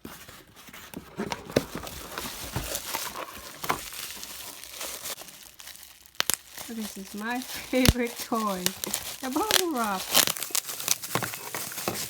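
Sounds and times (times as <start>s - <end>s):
packaging crinkling and crackling: 0.0s - 12.0s.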